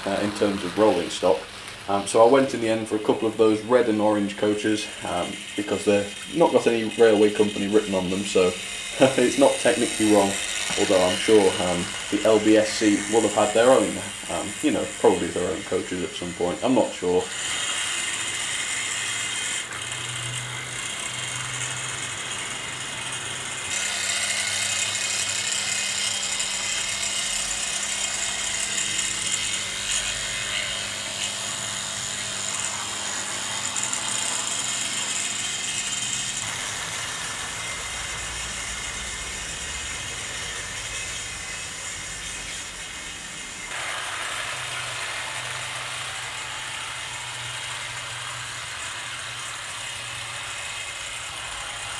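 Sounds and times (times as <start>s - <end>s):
model trains running on track: 0.0s - 51.9s.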